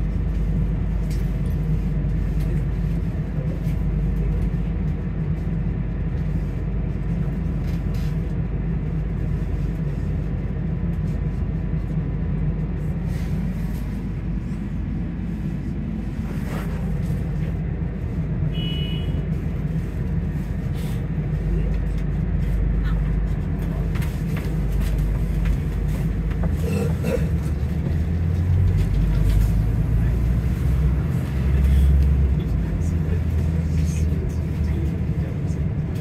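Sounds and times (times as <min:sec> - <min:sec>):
bus low rumble: 0:00.0 - 0:36.0.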